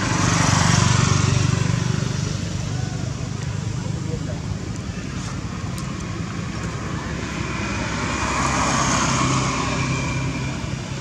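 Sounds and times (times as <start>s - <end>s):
tyre noise on road: 0.0s - 11.0s
vehicle engine hum passing: 0.0s - 11.0s.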